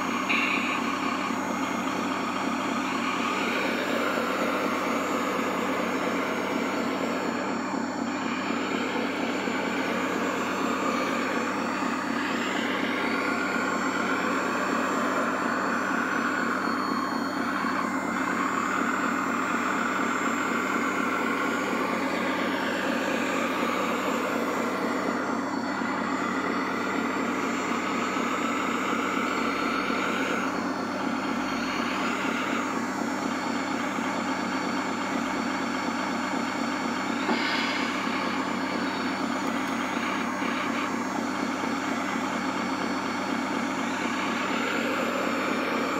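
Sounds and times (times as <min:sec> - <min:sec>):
engine-like drone: 0:00.0 - 0:45.9
model loader motors whining: 0:00.0 - 0:45.9.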